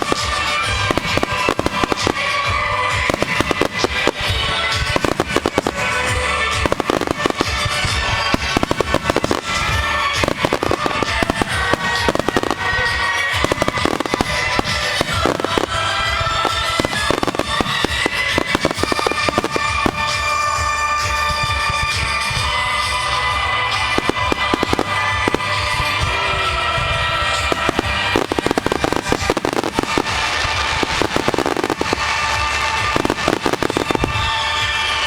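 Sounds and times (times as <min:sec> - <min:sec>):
fireworks bursting and crackling: 0:00.0 - 0:35.0
music: 0:00.0 - 0:35.0.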